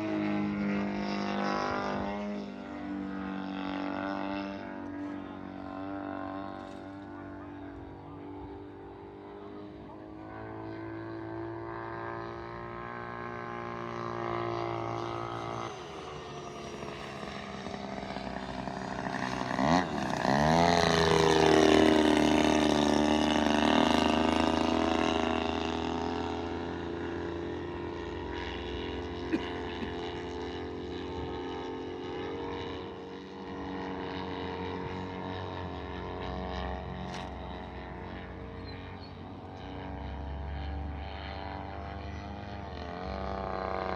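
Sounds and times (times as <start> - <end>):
model airplane engine droning: 0.0 - 43.9.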